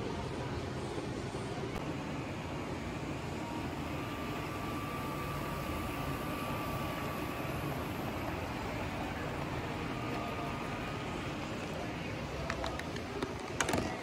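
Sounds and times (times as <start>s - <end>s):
faint steady whine: 0.0s - 14.0s
model trains running: 0.1s - 14.0s.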